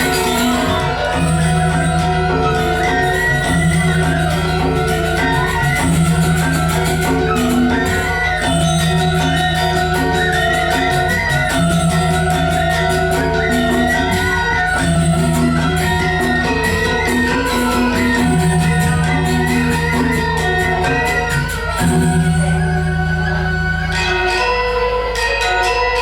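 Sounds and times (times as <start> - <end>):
gamelan metallophones and gongs: 0.0 - 26.0.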